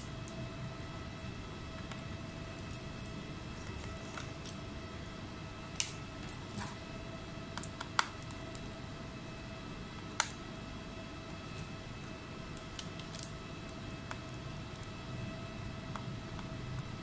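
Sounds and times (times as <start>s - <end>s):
faint electrical whine: 0.0s - 17.0s.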